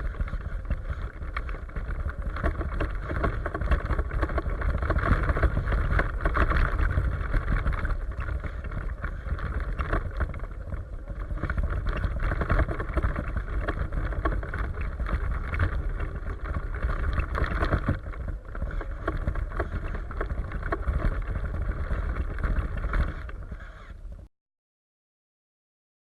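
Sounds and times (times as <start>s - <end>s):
rc truck motor running: 0.0s - 24.1s
wind rumble on microphone: 0.0s - 24.3s.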